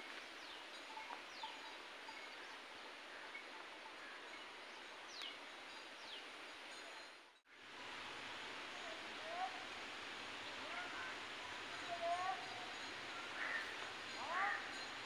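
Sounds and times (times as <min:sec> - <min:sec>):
steady forest hiss: 0:00.0 - 0:15.0.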